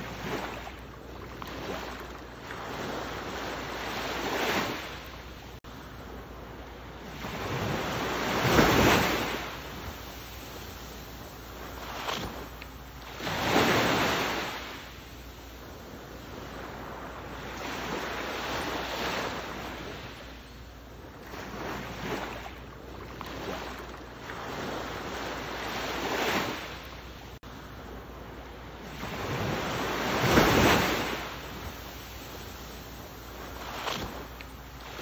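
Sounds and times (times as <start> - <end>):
ocean waves surging: 0.0 - 35.0.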